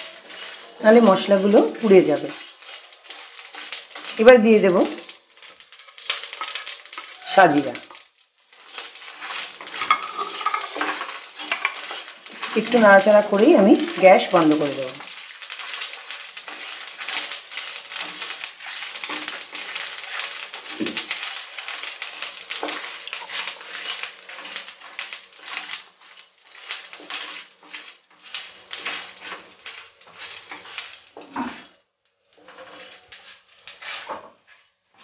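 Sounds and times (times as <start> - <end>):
spices rattling and spatula scraping wok: 0.0 - 35.0.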